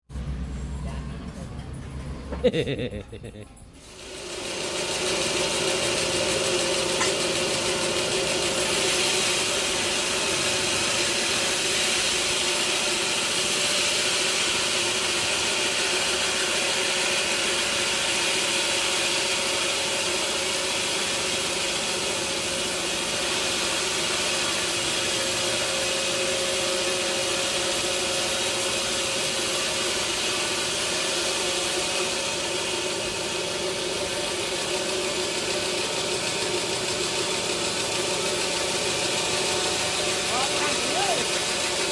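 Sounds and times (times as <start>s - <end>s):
sawmill machinery hum: 0.1s - 41.9s.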